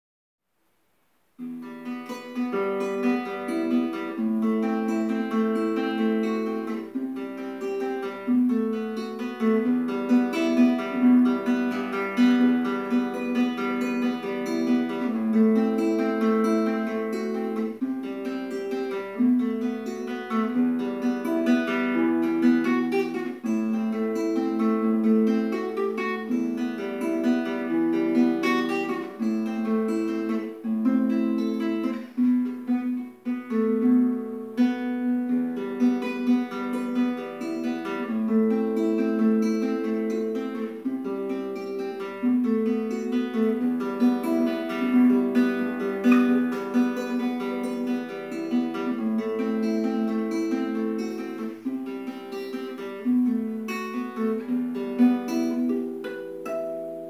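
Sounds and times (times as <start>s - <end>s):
classical guitar fingerpicked: 1.3s - 57.0s.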